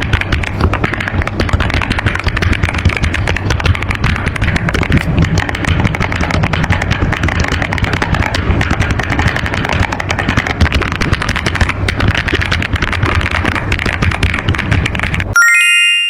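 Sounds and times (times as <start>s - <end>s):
mechanical keyboard typing: 0.0s - 15.4s.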